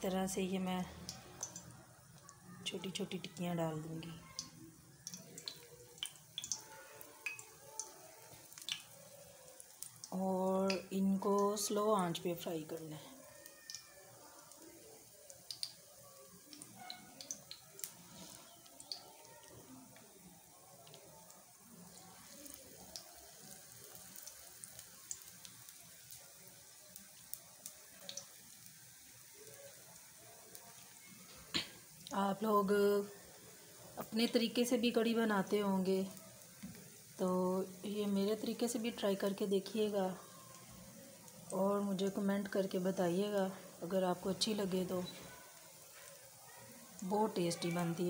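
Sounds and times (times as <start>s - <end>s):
hot oil crackling with pops: 0.0s - 48.0s.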